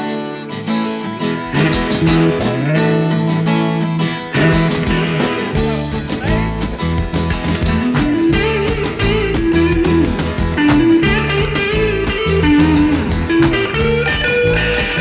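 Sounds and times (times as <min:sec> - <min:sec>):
instrumental rock music: 0:01.4 - 0:15.0.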